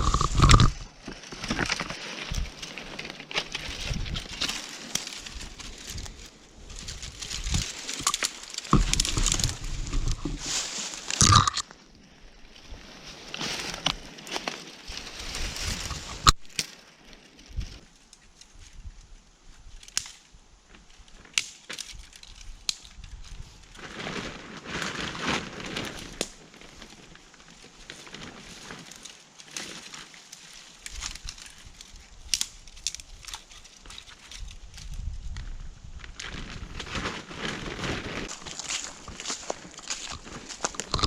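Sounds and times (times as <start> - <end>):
twigs snapping: 0.0 - 11.8, 13.1 - 16.9, 19.7 - 20.3, 21.1 - 23.5, 25.8 - 41.0
footsteps crunching dry leaves: 0.0 - 18.0, 20.8 - 41.0
rustle of leaves: 0.0 - 41.0.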